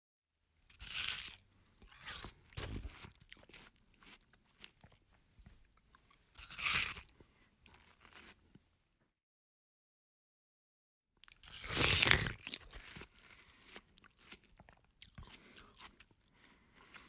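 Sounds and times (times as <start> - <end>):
person chewing watermelon: 0.7 - 8.6, 11.2 - 17.0.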